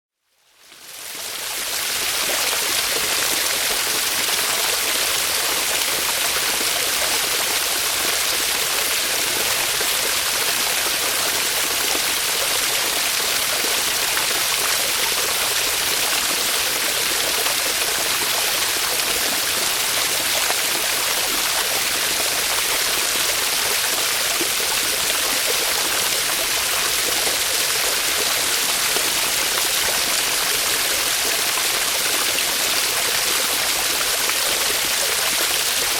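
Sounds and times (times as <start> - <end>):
small waterfall splashing: 0.5 - 35.9.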